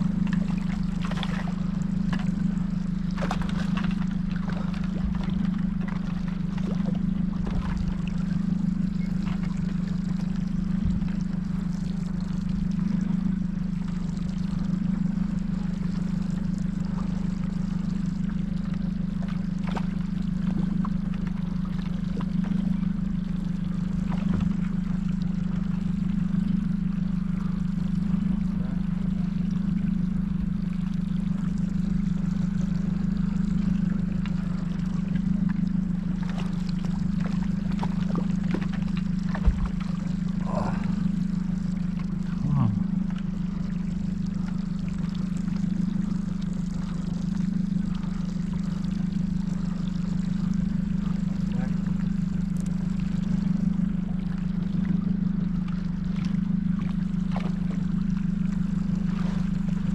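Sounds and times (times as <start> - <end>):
boat motor humming: 0.0 - 59.9
water splashing around hull: 0.0 - 59.9.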